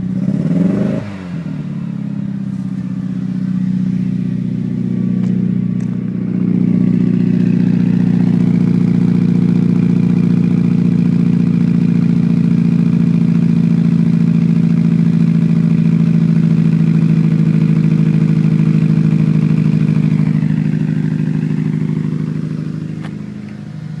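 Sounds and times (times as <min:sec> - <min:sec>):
car engine misfiring: 0:00.0 - 0:24.0.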